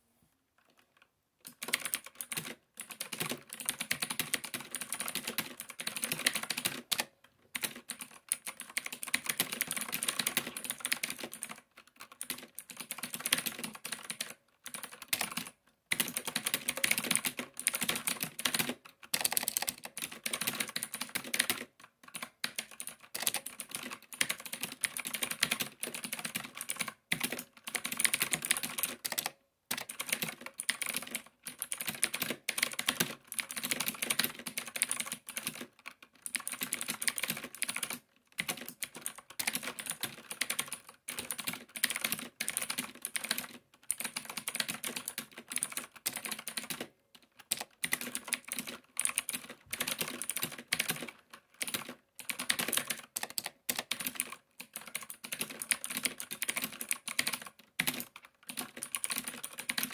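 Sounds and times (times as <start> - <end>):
mechanical keyboard typing clicks: 0.6 - 59.9.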